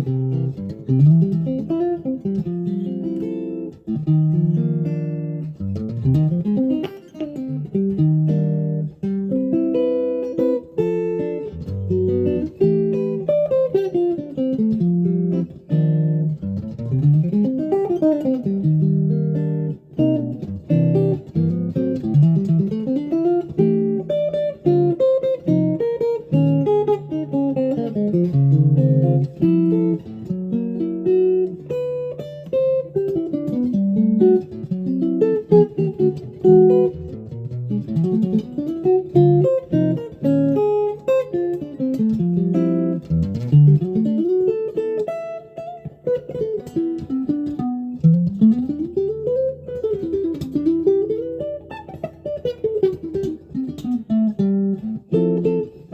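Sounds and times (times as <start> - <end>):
solo guitar playing: 0.0 - 55.9.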